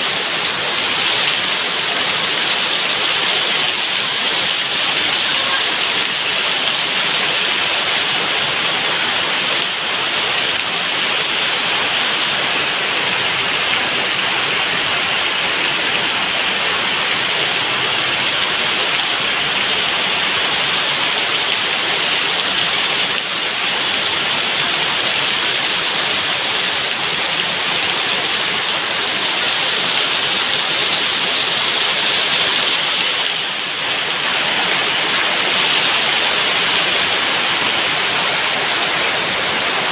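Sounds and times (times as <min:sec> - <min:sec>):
heavy rain on gravel and puddles: 0:00.0 - 0:39.9.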